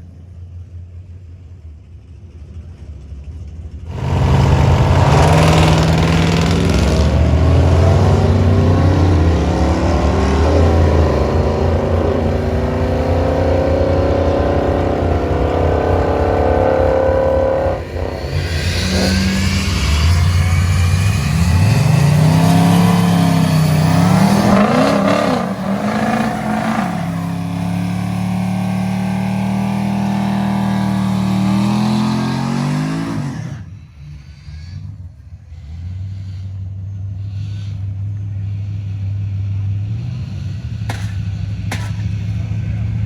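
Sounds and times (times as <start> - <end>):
engine idling: 0.0 - 39.9, 40.6 - 43.0
drag car engine racing: 1.9 - 43.0.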